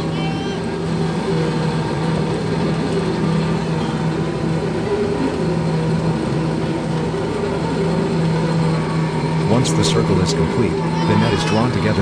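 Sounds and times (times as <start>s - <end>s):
ship engine and machinery drone: 0.0s - 12.0s.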